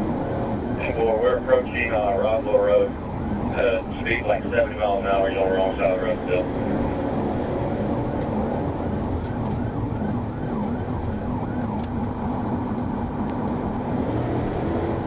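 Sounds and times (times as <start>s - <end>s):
car engine and road noise: 0.0s - 15.0s
police siren yelping: 0.8s - 14.0s.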